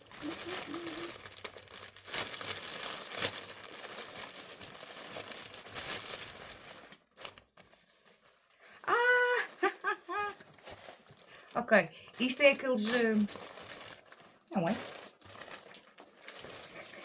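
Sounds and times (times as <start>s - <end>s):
plastic packaging crinkling and tearing: 0.0s - 17.0s.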